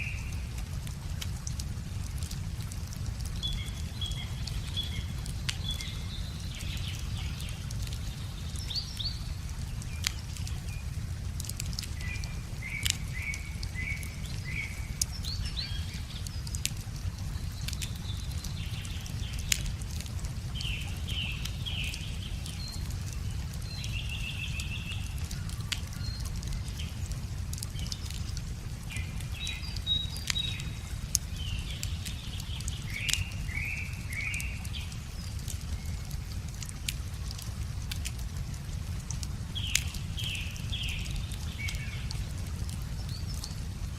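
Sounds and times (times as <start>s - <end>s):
small birds chirping: 0.0s - 43.9s
steady low rumble: 0.0s - 43.9s
wood fire crackling and popping: 0.2s - 43.9s.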